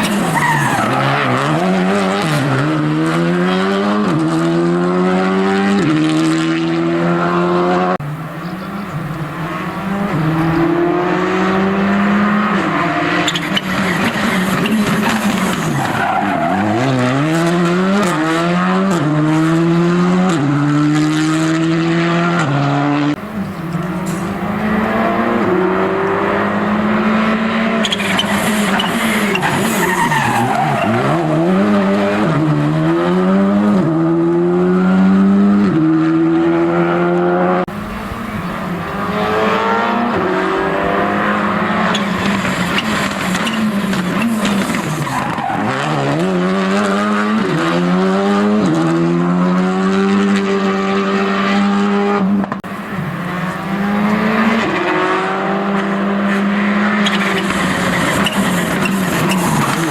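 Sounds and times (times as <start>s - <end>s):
rally car engines at full throttle: 0.0s - 59.9s.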